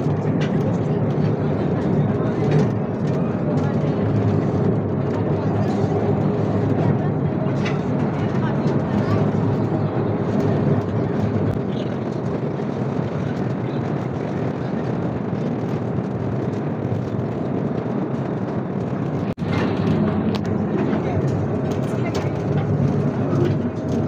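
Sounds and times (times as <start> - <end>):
mine train rumbling and rattling: 0.0 - 24.0.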